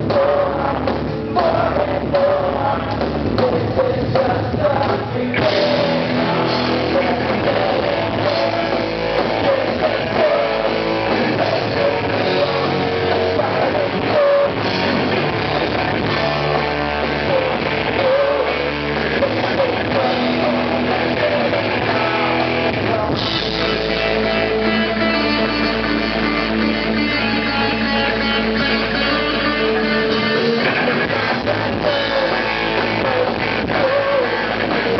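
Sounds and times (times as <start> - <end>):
person singing: 0.0 - 34.9
rock band playing: 0.0 - 34.9.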